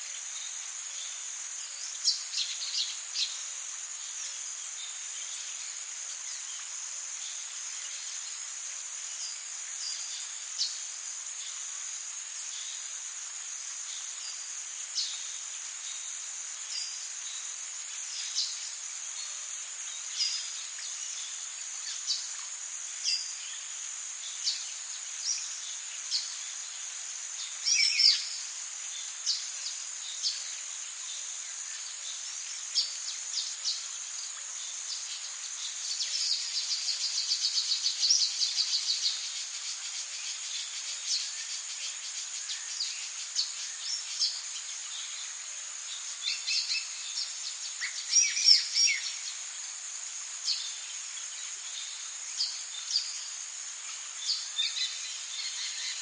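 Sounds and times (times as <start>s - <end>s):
high insect drone: 0.0s - 56.0s
rain hiss: 0.0s - 56.0s.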